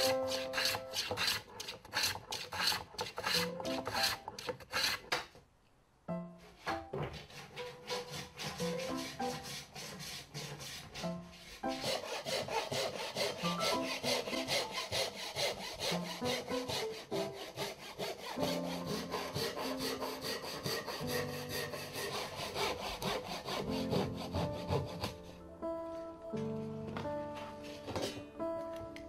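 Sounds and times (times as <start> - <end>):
soft background music: 0.0 - 4.3, 6.0 - 29.0
hand saw cutting wood: 0.0 - 5.3, 7.1 - 25.3.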